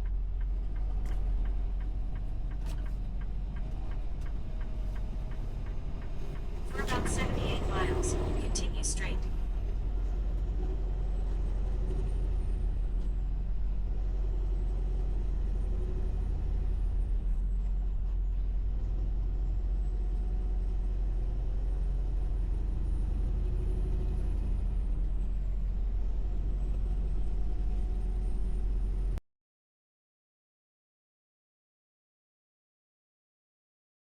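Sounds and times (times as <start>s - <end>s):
road noise: 0.0s - 29.2s
truck engine rumble: 0.0s - 29.2s.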